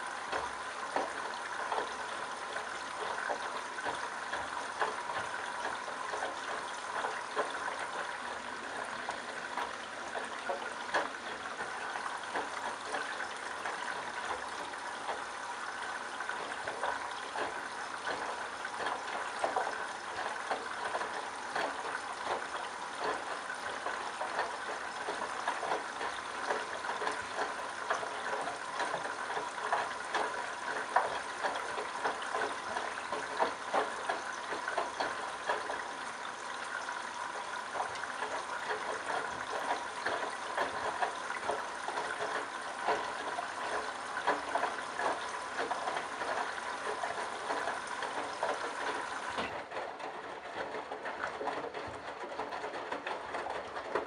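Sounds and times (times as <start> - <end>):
washing machine water splashing: 0.0 - 54.0.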